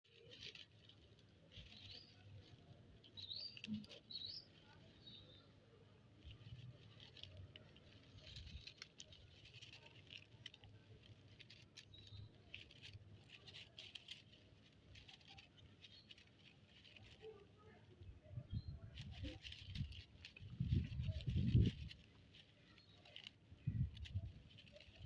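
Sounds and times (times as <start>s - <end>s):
kittens' paws pattering: 0.0s - 25.0s.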